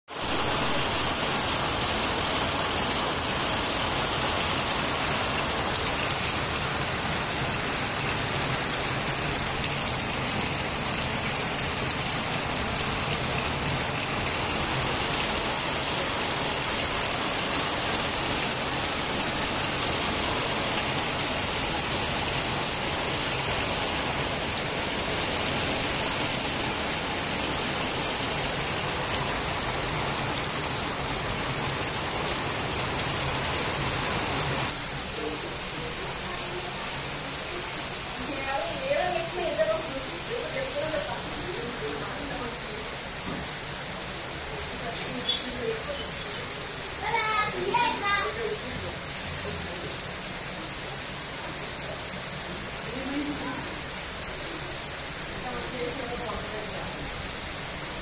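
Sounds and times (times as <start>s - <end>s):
heavy rain on concrete rooftop: 0.0s - 58.0s.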